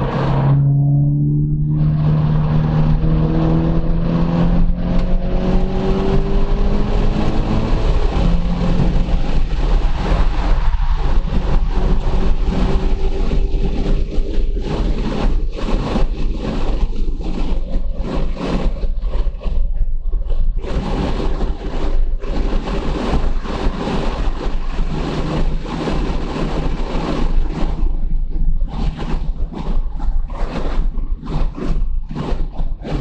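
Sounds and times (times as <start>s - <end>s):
car engine under full throttle: 0.0s - 33.0s
heavy wind noise: 0.0s - 33.0s.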